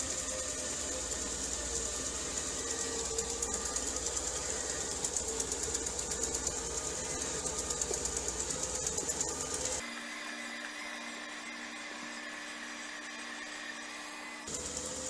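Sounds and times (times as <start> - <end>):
robot vacuum motor whir: 0.0 - 15.0.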